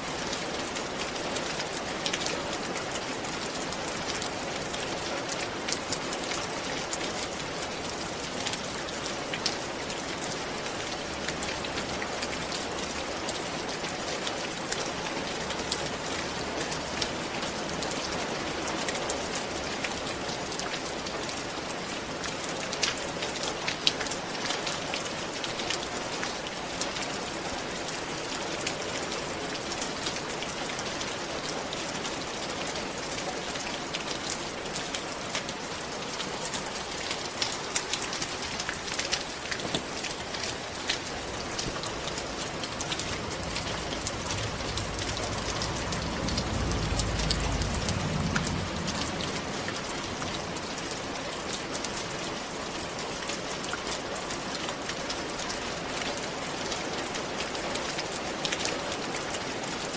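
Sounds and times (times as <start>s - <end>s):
rain on a roof: 0.0s - 59.9s
raindrops ticking: 0.0s - 59.9s.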